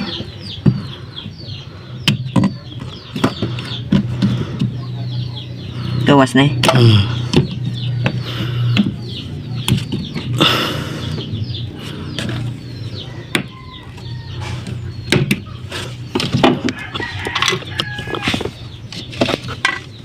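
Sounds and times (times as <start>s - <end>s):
chickens clucking and chirping: 0.0s - 20.0s
steady low hum: 0.0s - 20.0s.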